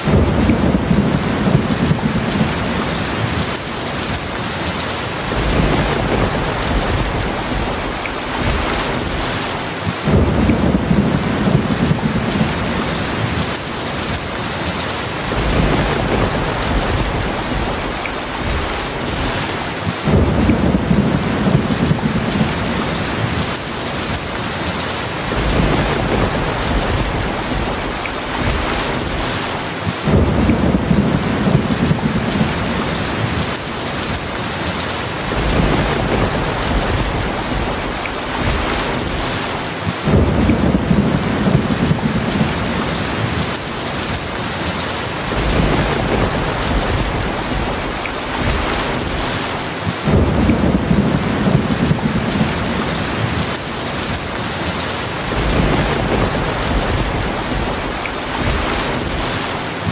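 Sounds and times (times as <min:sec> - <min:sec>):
low thunder rumbles: 0:00.0 - 0:24.3, 0:25.0 - 0:59.9
heavy rain falling: 0:00.0 - 0:59.9.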